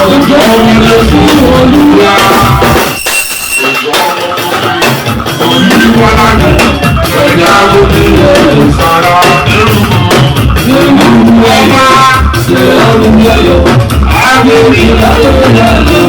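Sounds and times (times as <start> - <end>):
person singing: 0.0 - 3.0, 3.6 - 16.0
live band music: 0.0 - 16.0
steady drum beat: 0.0 - 16.0.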